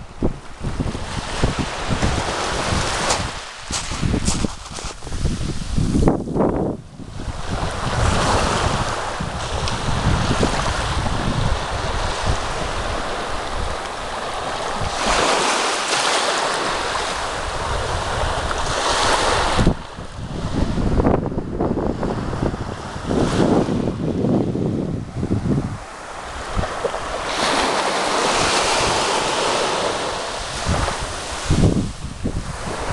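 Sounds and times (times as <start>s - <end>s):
sea waves breaking on shore: 0.0s - 6.2s, 6.9s - 32.9s
wind buffeting microphone: 0.0s - 32.9s.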